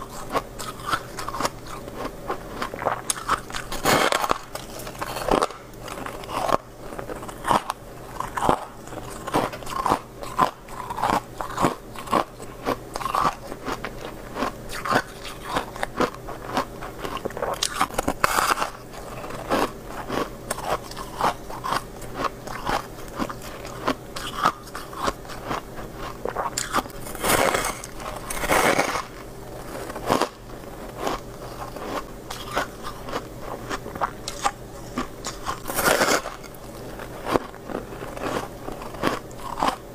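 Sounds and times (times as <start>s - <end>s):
frost crunching in a mouth: 0.0s - 39.9s.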